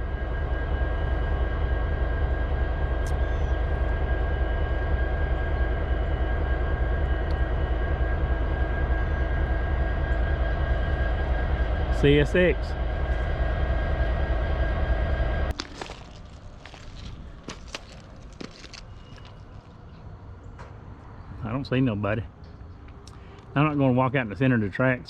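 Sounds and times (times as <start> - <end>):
diesel locomotive idling: 0.0 - 25.0.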